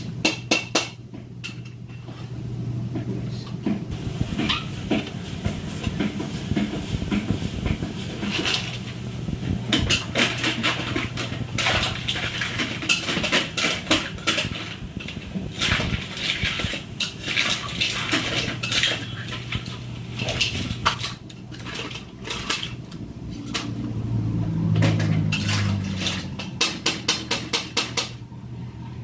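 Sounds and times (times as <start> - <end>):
metal cookware clinking and scraping: 0.0 - 2.3, 4.3 - 9.0, 9.7 - 28.2
steady low hum: 0.0 - 29.0.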